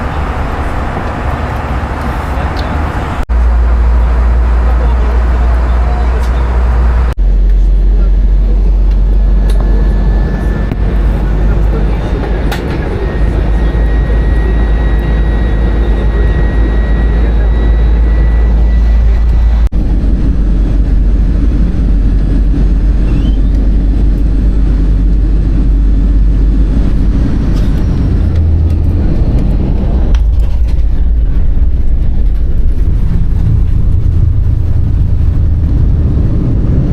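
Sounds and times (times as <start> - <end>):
moving vehicle rumble: 0.0 - 36.9.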